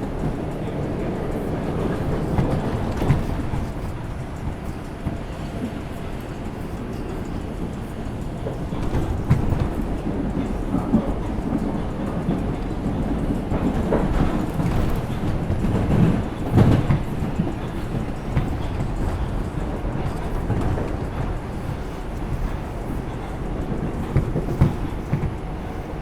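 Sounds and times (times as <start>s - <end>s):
subway wheels rumbling on rails: 0.0s - 26.0s
wheels knocking on rail joints: 0.0s - 26.0s.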